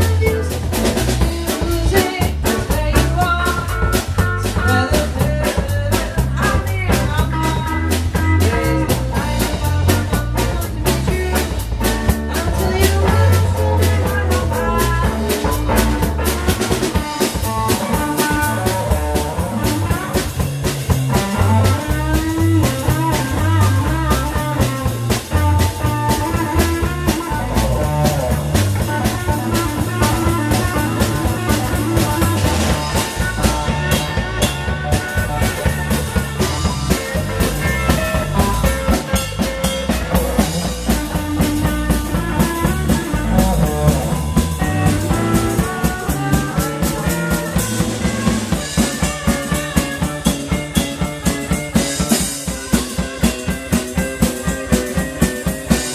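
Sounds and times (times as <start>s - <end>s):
bass: 0.0s - 55.9s
drum kit with rimshots: 0.0s - 55.9s
electric guitar lines: 0.0s - 55.9s.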